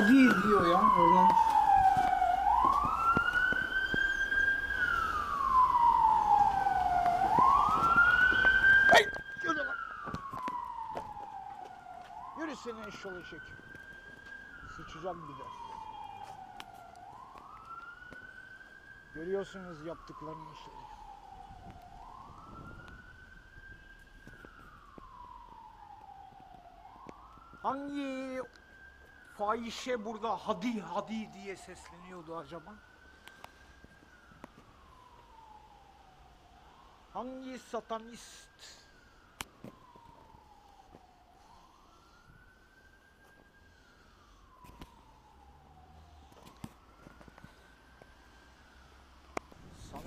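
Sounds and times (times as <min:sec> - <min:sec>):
siren wailing: 0:00.0 - 0:50.0.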